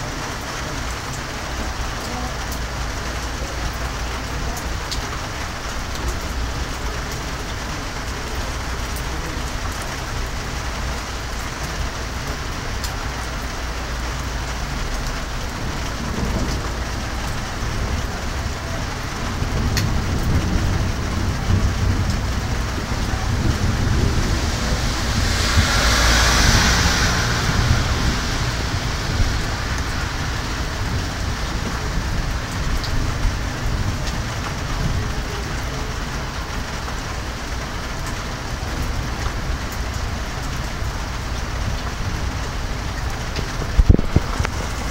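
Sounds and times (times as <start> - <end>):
low thunder rumble: 0.0 - 44.9
steady rain falling: 0.0 - 44.9.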